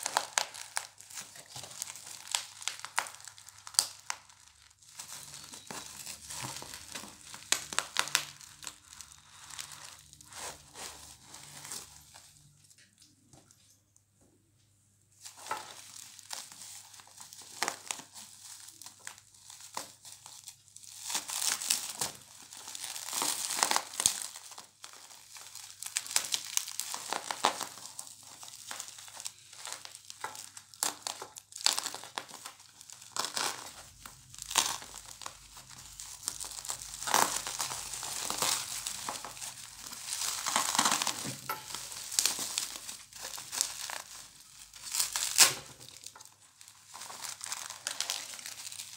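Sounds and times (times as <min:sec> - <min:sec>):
bubble wrap crinkling: 0:00.0 - 0:13.2, 0:15.2 - 0:48.9.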